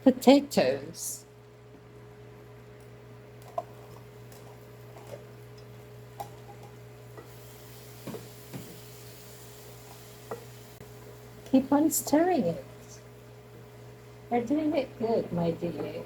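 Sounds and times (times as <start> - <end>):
steady low hum: 0.0 - 16.0
faint sizzle: 3.0 - 16.0.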